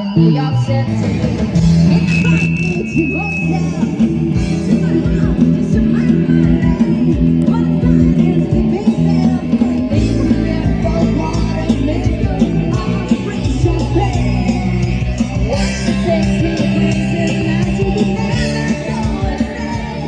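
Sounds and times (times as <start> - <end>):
low bass notes: 0.0 - 20.0
person singing: 0.0 - 20.0
rock band music: 0.0 - 20.0.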